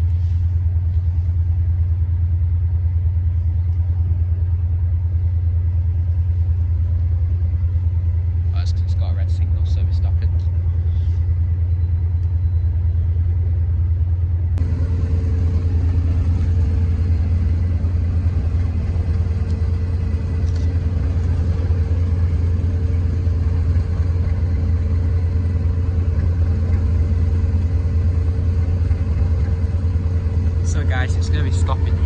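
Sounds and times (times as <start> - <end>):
diesel locomotive engine idling: 0.0 - 32.0
steady hum: 0.0 - 32.0.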